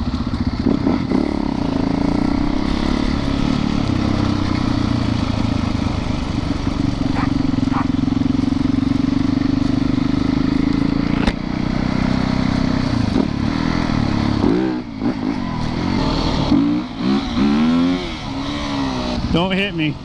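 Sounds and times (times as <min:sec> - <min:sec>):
dirt bike engine revving: 0:00.0 - 0:19.7.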